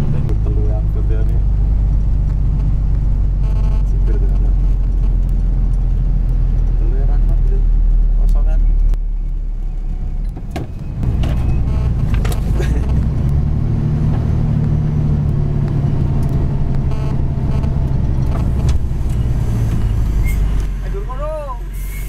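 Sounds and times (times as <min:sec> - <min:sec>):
diesel truck engine hum: 0:00.0 - 0:22.0.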